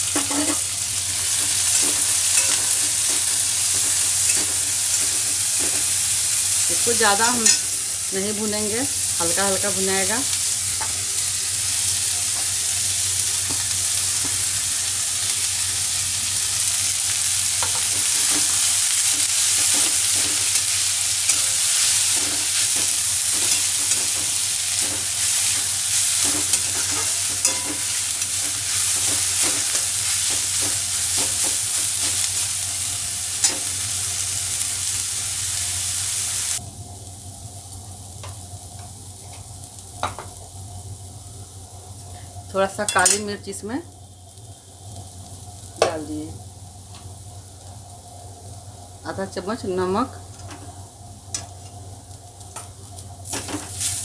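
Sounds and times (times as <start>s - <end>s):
vegetables sizzling in hot oil: 0.0s - 54.0s.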